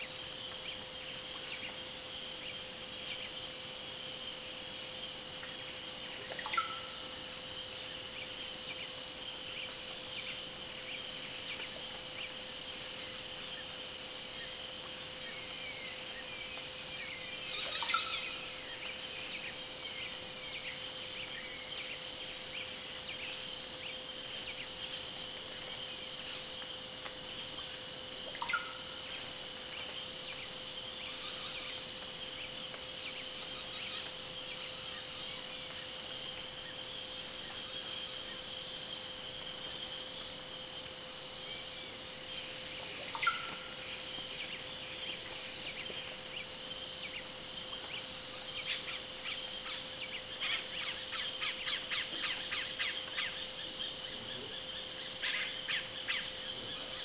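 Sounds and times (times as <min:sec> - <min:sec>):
insect chorus: 0:00.0 - 0:57.0.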